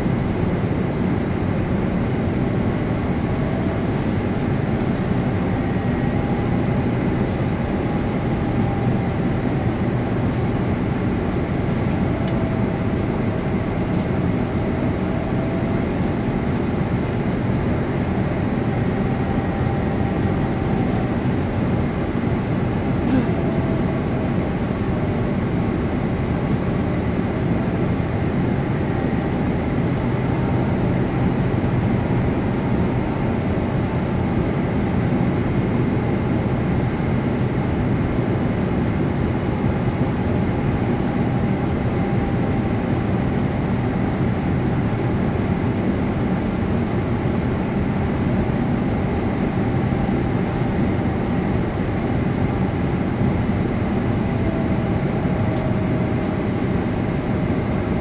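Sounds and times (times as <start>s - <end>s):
jet engine rush in cabin: 0.0s - 58.0s.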